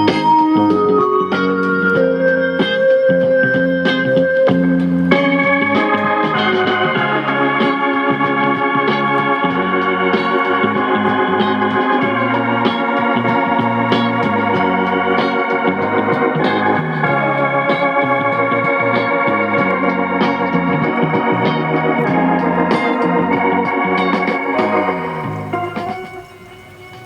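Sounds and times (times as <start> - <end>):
moving bass line: 0.0 - 26.1
organ chords: 0.0 - 27.0.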